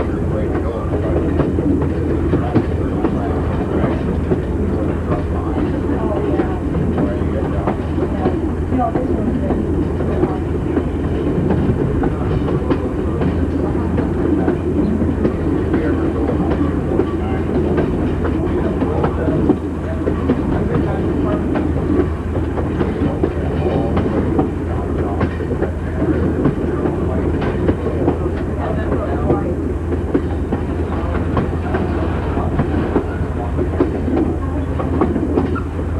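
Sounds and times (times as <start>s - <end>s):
rail joint clicks and rattles: 0.0s - 35.9s
train wheels rumbling on rails: 0.0s - 35.9s.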